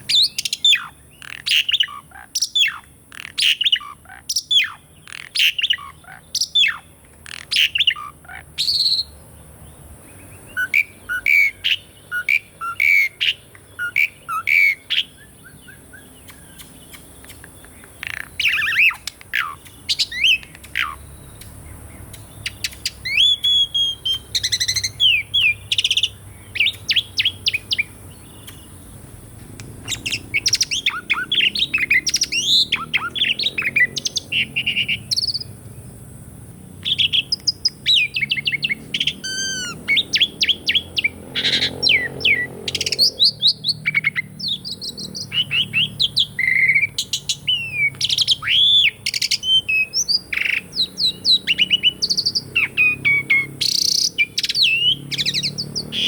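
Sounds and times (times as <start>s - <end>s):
starling singing whistles: 0.0s - 9.2s, 10.4s - 29.0s, 29.8s - 35.6s, 36.8s - 56.0s.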